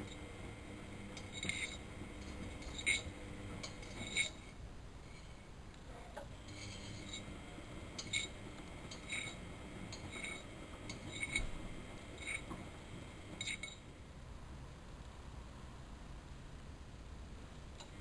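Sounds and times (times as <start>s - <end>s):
washing machine rumble: 0.0s - 15.8s.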